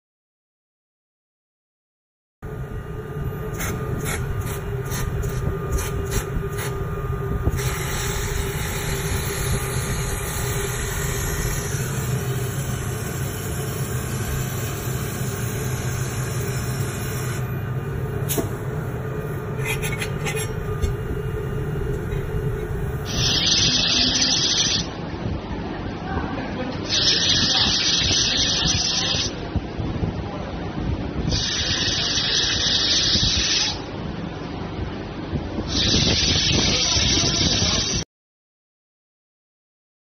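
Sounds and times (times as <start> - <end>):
machine hum with hiss: 2.4 - 30.1, 30.8 - 34.0, 34.8 - 38.0.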